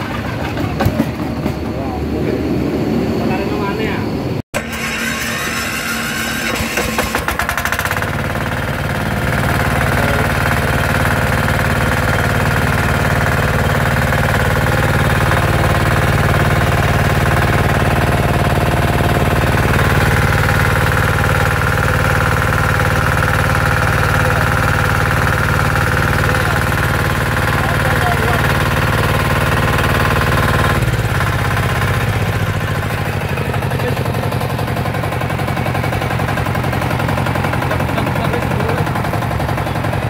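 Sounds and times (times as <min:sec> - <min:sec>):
diesel engine knocking: 0:07.2 - 0:40.0.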